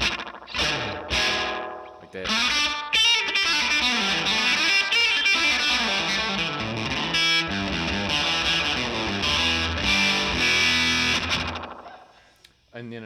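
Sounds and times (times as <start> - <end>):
electric guitar with slapback echo: 0.0 - 12.3.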